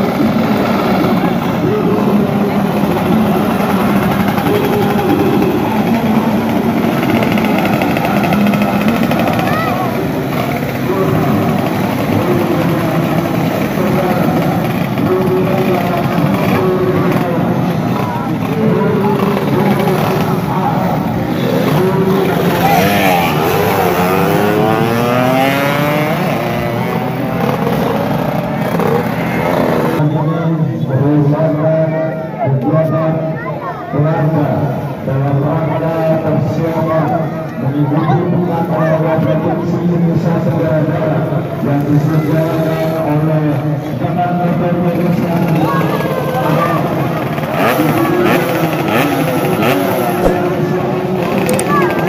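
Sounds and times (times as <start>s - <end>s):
motorcycle engines buzzing: 0.0s - 30.1s, 34.2s - 52.0s.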